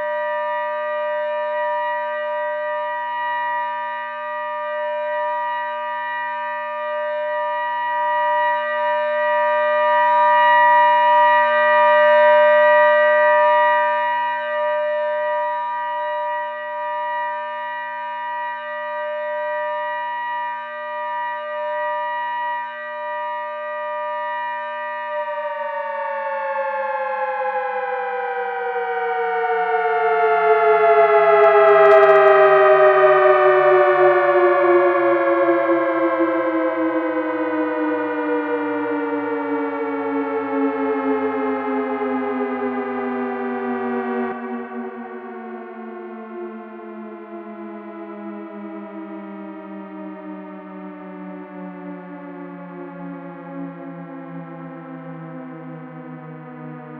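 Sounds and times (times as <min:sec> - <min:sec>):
synthesized siren: 0:00.0 - 0:56.9.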